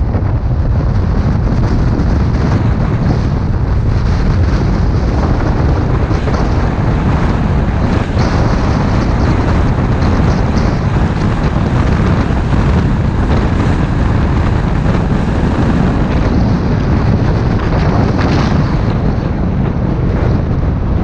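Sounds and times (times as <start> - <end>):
car road noise: 0.0 - 21.0
wind buffeting microphone: 0.0 - 21.0.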